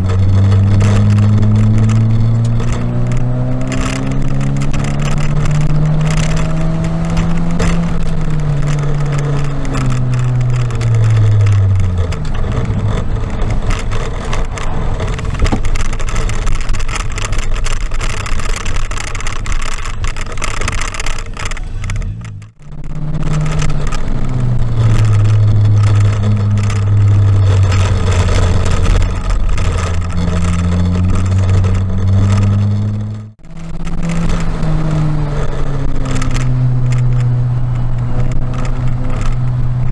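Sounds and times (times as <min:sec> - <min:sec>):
car engine driven hard: 0:00.0 - 0:39.9
wet tyre and road noise: 0:00.0 - 0:39.9.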